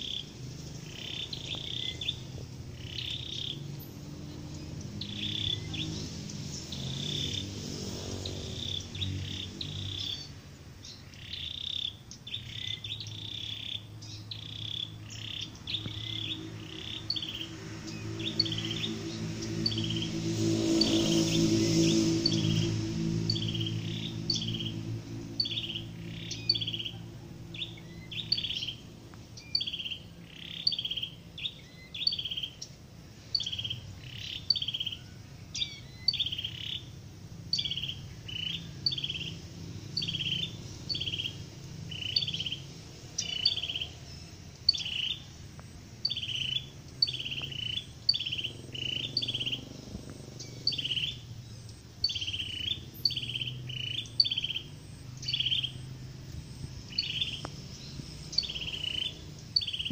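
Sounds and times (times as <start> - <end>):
songbird call: 0.0 - 59.9.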